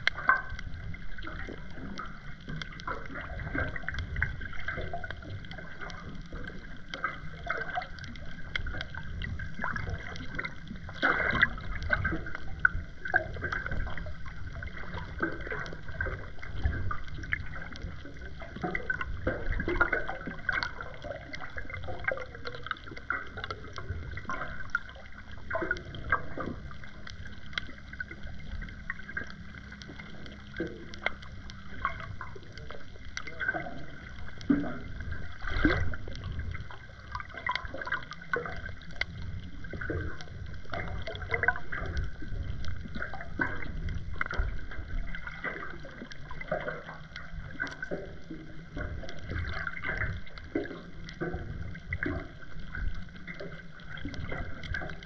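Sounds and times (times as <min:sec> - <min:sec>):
muffled moving water underwater: 0:00.0 - 0:55.0
underwater clicks and crackles: 0:00.0 - 0:55.0.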